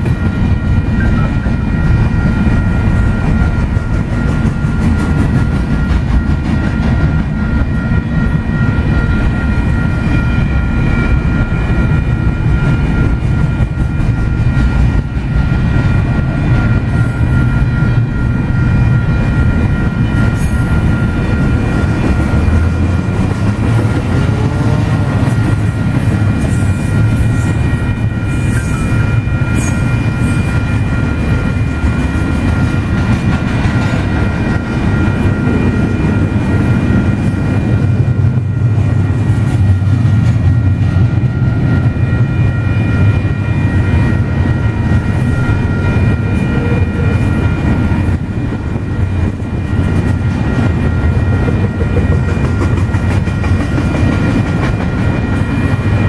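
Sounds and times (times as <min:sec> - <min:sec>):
crossing bell ringing: 0:00.0 - 0:56.0
train wheels rumbling on rails: 0:00.0 - 0:56.0.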